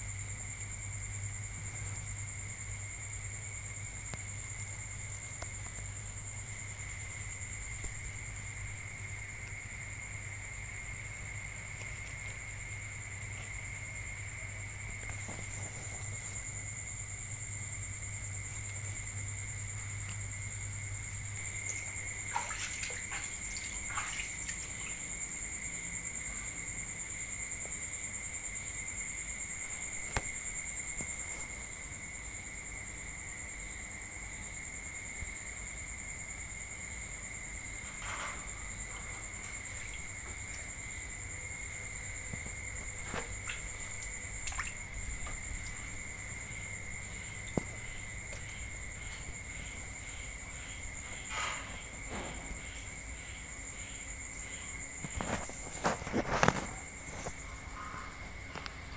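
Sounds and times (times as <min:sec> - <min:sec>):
night insects trilling: 0:00.0 - 0:58.9.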